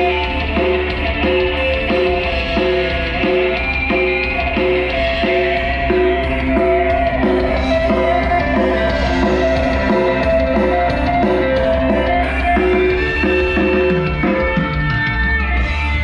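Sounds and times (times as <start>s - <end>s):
strong steady bass: 0.0s - 16.0s.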